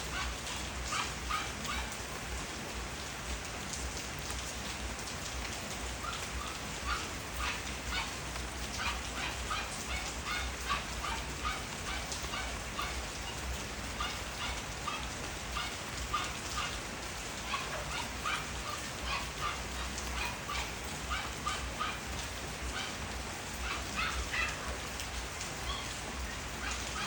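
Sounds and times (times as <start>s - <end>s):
rain falling: 0.0s - 27.0s
raindrops tapping: 0.0s - 27.0s.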